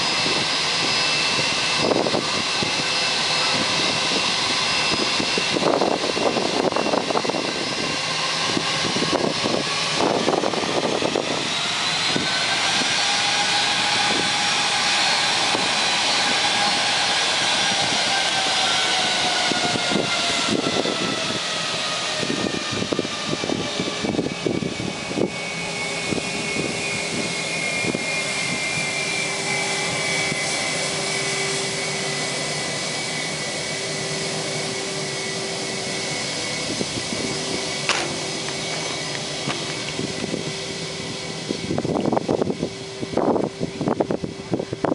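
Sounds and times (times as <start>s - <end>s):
jet engines whining: 0.0s - 44.9s
low steady engine tone: 0.0s - 44.9s.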